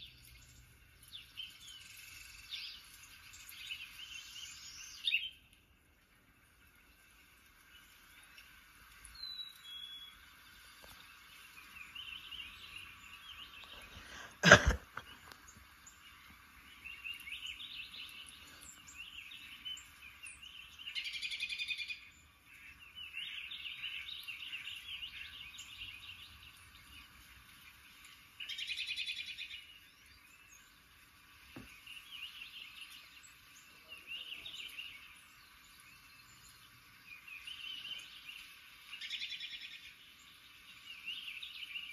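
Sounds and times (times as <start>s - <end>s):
songbird chirps from television: 0.0s - 41.9s.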